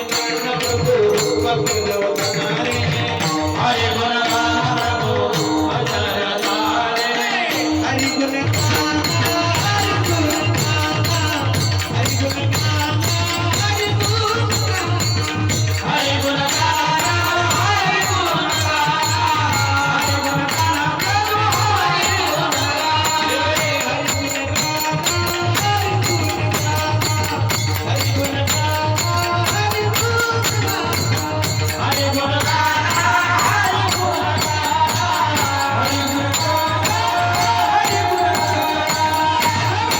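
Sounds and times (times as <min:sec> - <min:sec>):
hand drum beat: 0:00.0 - 0:39.9
man singing devotional melody: 0:00.0 - 0:39.9
small hand cymbals: 0:00.0 - 0:39.9.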